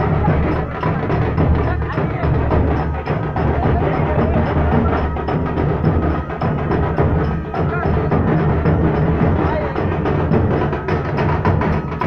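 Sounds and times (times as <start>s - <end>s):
deep drum beats: 0.0s - 12.0s
sharp drum strokes: 0.0s - 12.0s.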